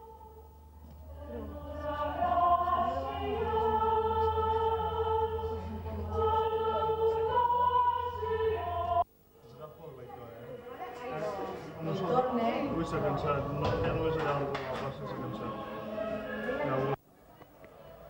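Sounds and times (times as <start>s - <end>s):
choir singing long-held notes: 0.0s - 9.1s, 10.4s - 17.0s
low steady hum: 0.0s - 18.0s.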